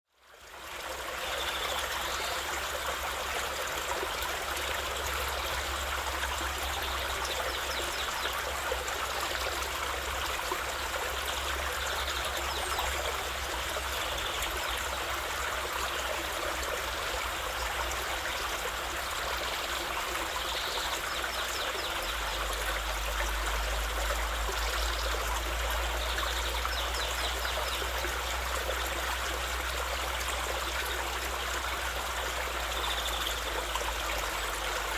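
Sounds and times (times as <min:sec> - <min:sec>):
water feature rushing: 0:00.4 - 0:34.9.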